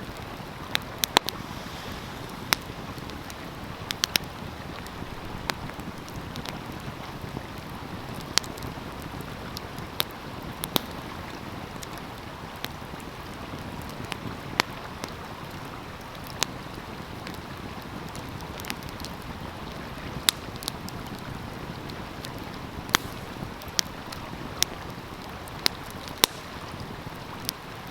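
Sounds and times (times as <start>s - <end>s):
stream flowing: 0.0s - 27.9s
wood fire crackling: 0.0s - 27.9s.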